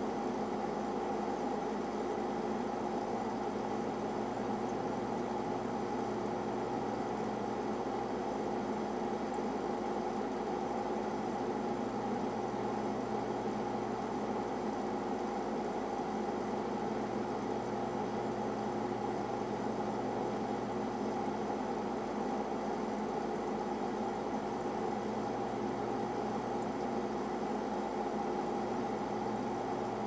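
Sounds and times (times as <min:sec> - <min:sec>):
machinery hum and whir: 0:00.0 - 0:30.0.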